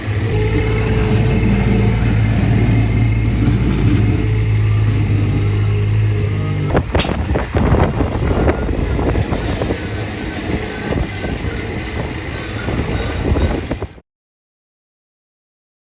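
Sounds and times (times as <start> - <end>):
skid steer loader running: 0.0 - 14.0.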